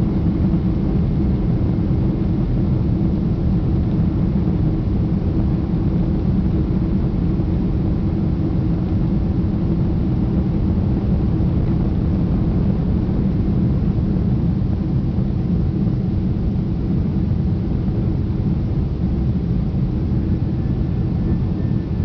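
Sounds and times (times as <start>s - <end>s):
jet engines rumbling in cabin: 0.0s - 22.0s.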